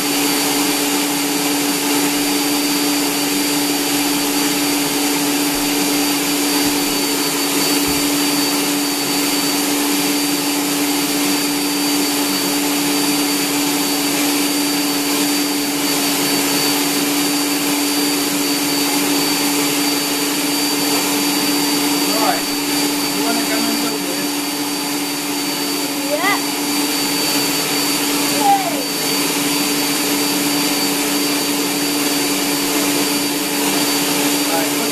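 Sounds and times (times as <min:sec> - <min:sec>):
stand mixer motor humming: 0:00.0 - 0:34.9.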